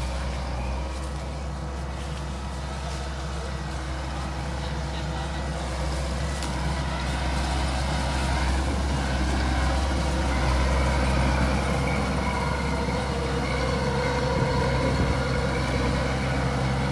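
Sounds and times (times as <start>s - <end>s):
large engine humming: 0.0s - 16.9s.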